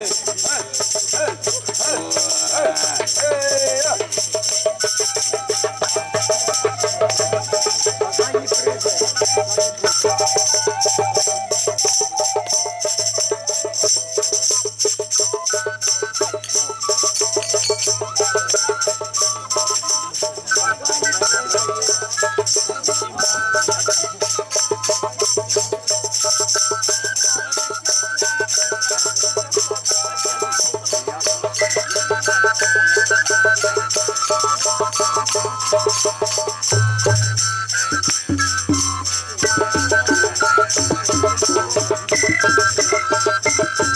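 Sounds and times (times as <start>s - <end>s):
jingling tambourine percussion: 0.0s - 43.9s.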